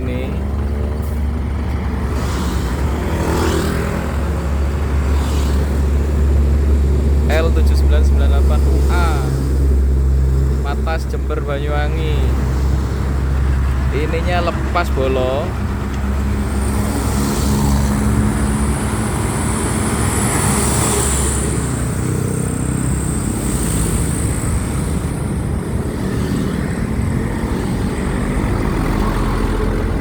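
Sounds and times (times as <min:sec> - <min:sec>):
traffic noise: 0:00.0 - 0:30.0
vehicle engine drone: 0:00.0 - 0:30.0.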